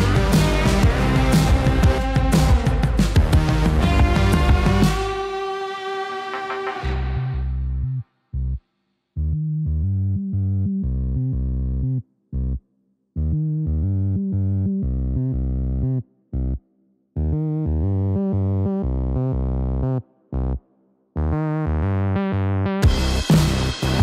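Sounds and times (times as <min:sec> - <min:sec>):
synthesizer and bass music: 0:00.0 - 0:08.6, 0:09.2 - 0:12.6, 0:13.2 - 0:16.6, 0:17.2 - 0:20.6, 0:21.2 - 0:24.0.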